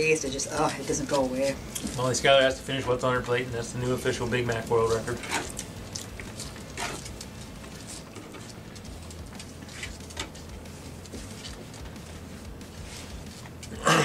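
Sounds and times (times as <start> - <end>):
low room hum: 0.0 - 14.0
people chewing food: 1.6 - 14.0.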